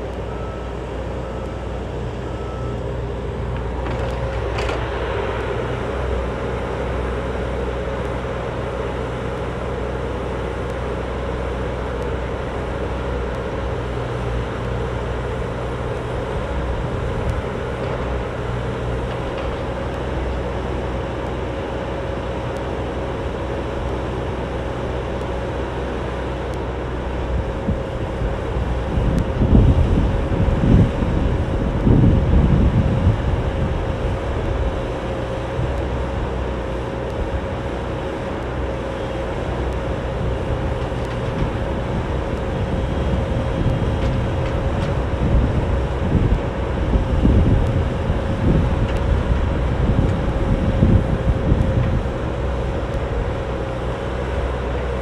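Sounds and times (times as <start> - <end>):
excavator diesel engine running: 0.0 - 55.0
low rumbling: 0.0 - 55.0.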